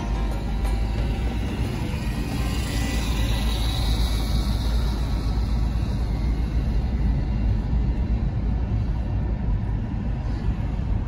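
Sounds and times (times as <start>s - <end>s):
car driving at speed: 0.0s - 11.0s.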